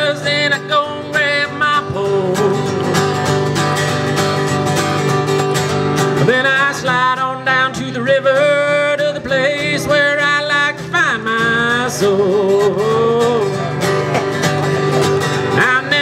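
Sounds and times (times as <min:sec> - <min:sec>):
man singing: 0:00.0 - 0:03.4, 0:06.1 - 0:16.0
strummed acoustic guitar: 0:00.0 - 0:16.0.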